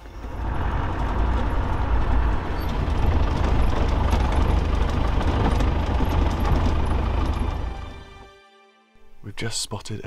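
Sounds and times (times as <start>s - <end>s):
vehicle engine and road rumble: 0.0s - 8.3s.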